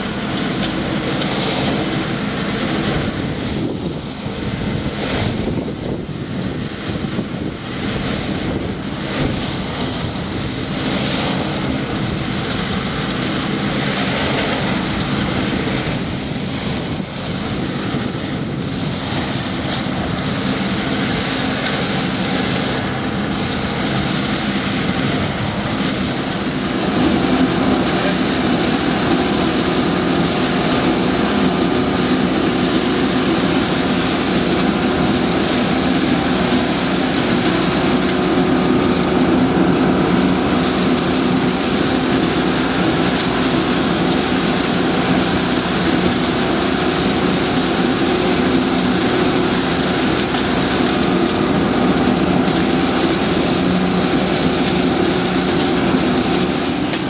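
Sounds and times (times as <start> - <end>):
dry leaves sucked up hose: 0.0 - 57.0
vacuum sweeper machine drone: 0.0 - 57.0.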